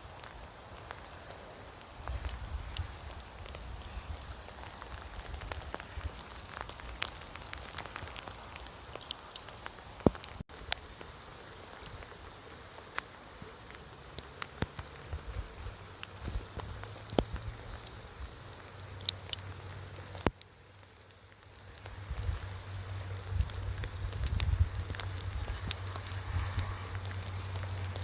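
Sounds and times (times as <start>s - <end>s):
raindrops tapping: 0.0s - 28.0s.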